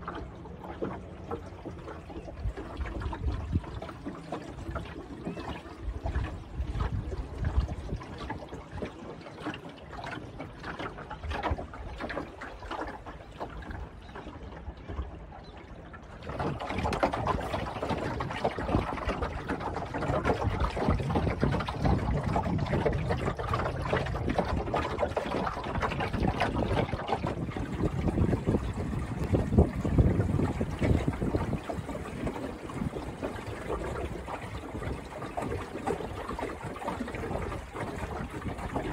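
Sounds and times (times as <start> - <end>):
water lapping along boat hull: 0.0 - 38.9.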